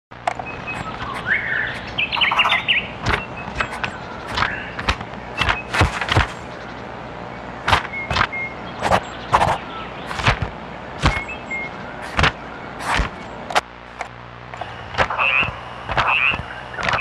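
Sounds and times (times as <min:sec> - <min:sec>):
steady low background: 0:00.1 - 0:17.0
small birds chirping: 0:00.3 - 0:13.5, 0:14.6 - 0:17.0.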